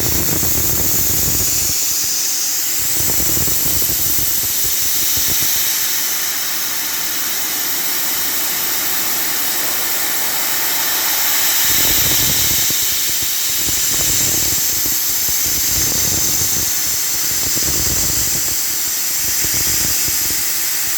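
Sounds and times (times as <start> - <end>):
milling cutter hissing: 0.0 - 20.9.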